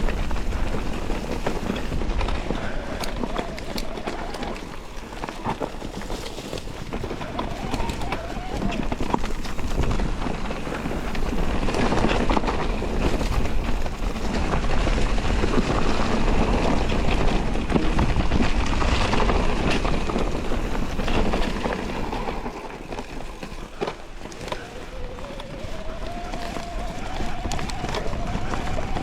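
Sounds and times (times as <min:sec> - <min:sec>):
bike tyre noise on trail: 0:00.0 - 0:29.0
wind on microphone: 0:00.0 - 0:29.0.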